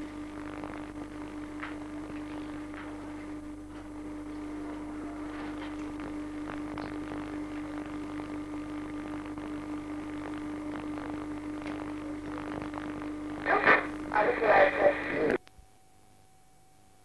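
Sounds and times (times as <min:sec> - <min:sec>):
faint crackling: 0:00.0 - 0:15.4
steady hum: 0:00.0 - 0:17.0.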